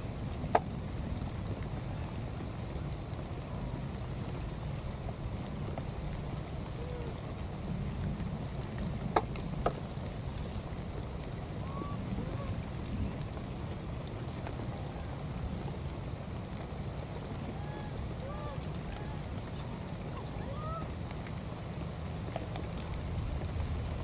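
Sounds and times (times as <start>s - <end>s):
light rain falling: 0.0s - 24.0s
wind rumble on microphone: 0.0s - 24.0s.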